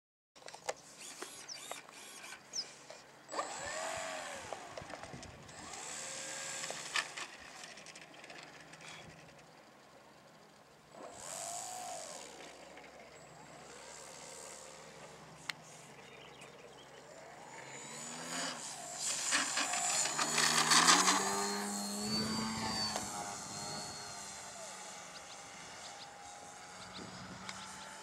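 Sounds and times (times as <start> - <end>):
model plane motor whining: 0.9 - 9.6, 10.9 - 28.0.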